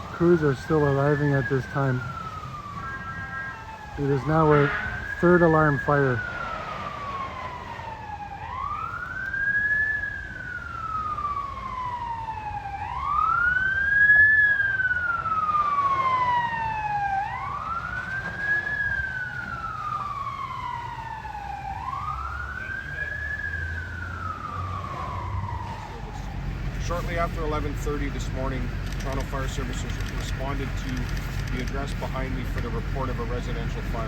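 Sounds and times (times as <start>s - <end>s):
emergency siren wailing: 0.0s - 34.0s.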